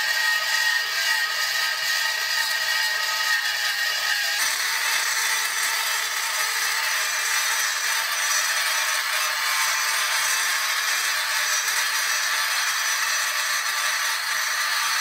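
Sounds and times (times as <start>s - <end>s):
rotary tool grinding metal: 0.0s - 15.0s.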